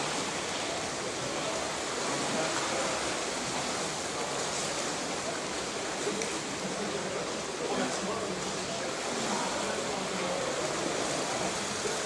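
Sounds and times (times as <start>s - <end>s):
underwater rushing water: 0.0s - 12.0s.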